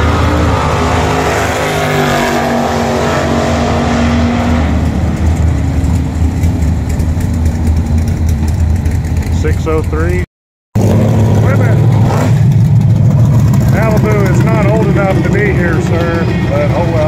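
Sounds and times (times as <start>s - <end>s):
drag race cars at full throttle: 0.0s - 17.0s.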